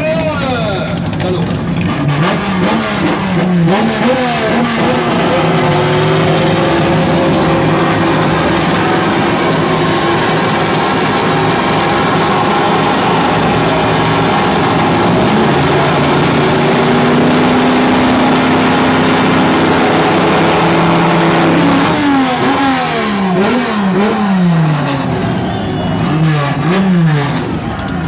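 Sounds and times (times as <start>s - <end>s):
drag racing car engines revving: 0.0s - 28.0s.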